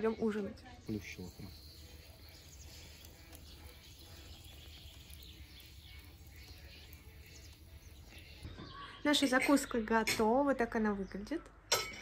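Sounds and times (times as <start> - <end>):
distant birds chirping: 0.0 - 10.0.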